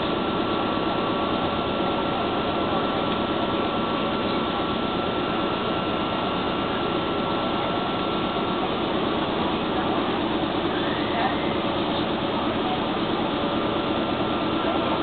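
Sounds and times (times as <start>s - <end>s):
air compressor drone: 0.0s - 15.0s
thin steady whine: 0.0s - 15.0s.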